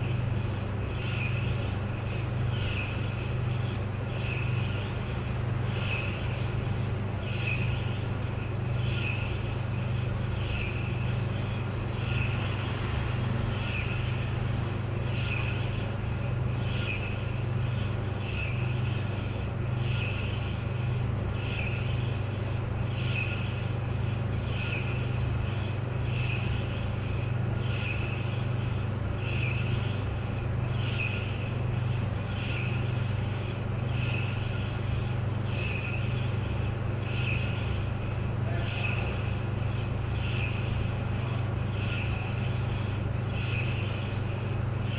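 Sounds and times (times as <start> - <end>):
clothes dryer humming: 0.0 - 44.9.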